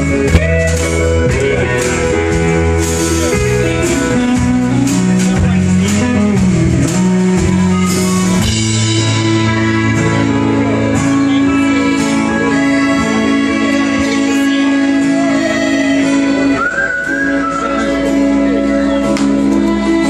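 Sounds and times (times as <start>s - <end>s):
guitar: 0.0s - 20.0s
live rock band playing: 0.0s - 20.0s.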